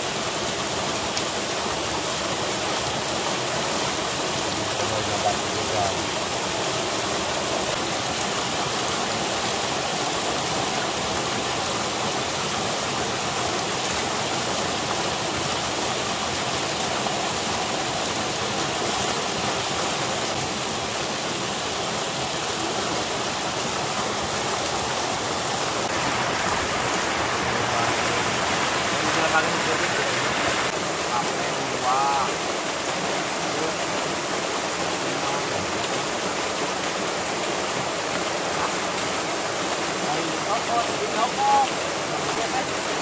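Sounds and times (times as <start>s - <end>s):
running water rushing: 0.0s - 43.0s.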